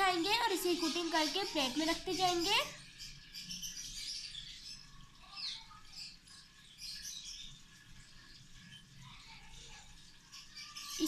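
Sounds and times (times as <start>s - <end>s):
faint bird chirps: 0.3s - 11.0s.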